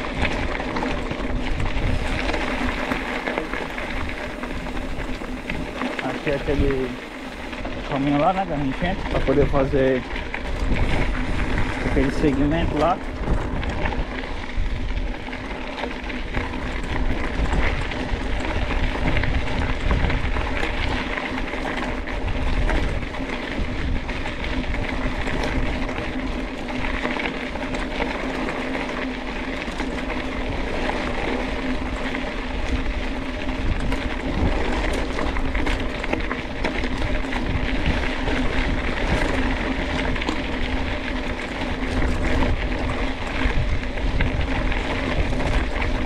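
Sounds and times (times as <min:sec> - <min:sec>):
bike rattles and knocks: 0:00.0 - 0:46.0
bike tyres rolling over dirt and stones: 0:00.0 - 0:46.0.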